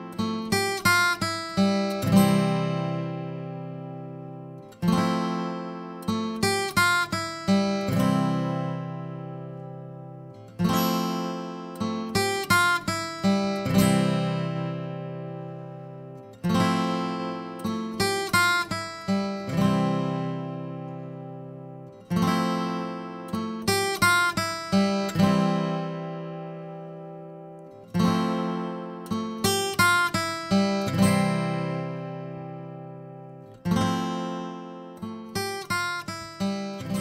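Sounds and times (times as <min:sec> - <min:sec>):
acoustic guitar plucking: 0:00.0 - 0:37.0.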